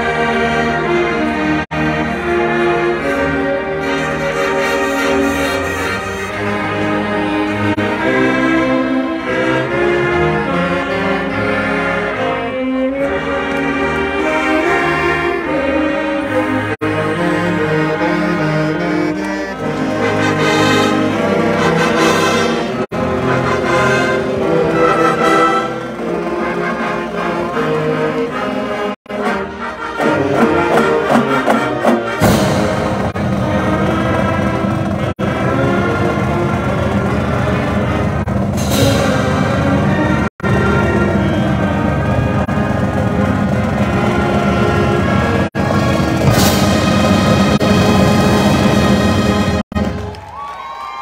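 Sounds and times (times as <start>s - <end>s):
marching band long held chords: 0.0s - 50.2s.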